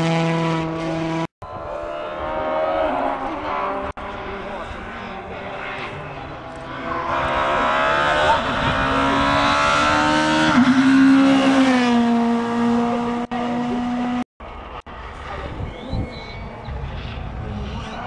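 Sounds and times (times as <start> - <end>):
rally car engine passing by: 0.0 - 15.4.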